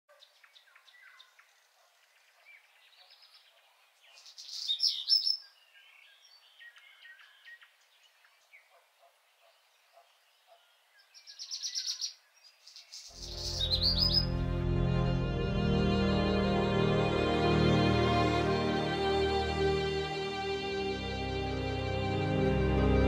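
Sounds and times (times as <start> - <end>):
songbirds chirping: 0.1 - 23.0.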